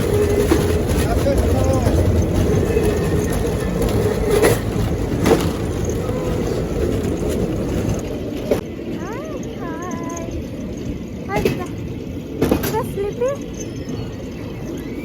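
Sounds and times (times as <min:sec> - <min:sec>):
steel wheels rumbling on track: 0:00.0 - 0:15.0
wheel clacks: 0:00.0 - 0:15.0.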